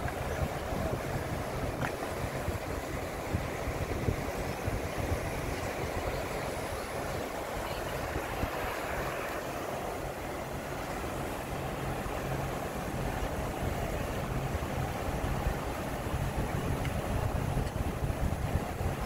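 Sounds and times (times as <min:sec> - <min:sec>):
boat engine idling: 0:00.0 - 0:19.0
water rushing: 0:00.0 - 0:19.0.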